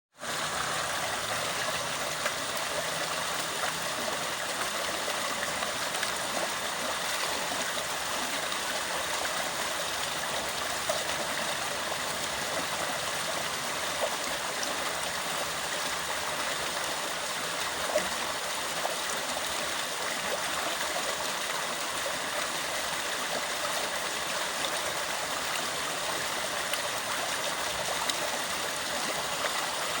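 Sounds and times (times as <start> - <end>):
water flowing: 0.2 - 30.0
water splashes: 0.2 - 30.0.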